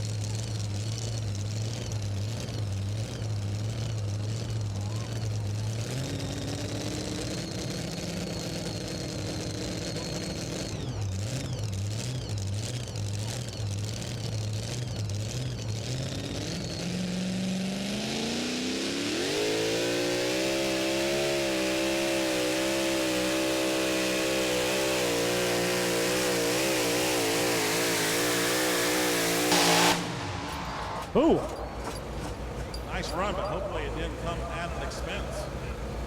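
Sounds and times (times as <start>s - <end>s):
truck engine idling and revving: 0.0s - 36.0s.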